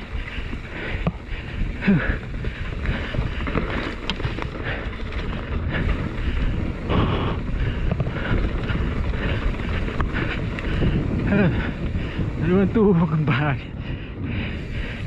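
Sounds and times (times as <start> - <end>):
tyres rolling over dirt: 0.0 - 13.6
bike rattling clicks and knocks: 0.0 - 15.0
wind buffeting microphone: 0.0 - 15.0.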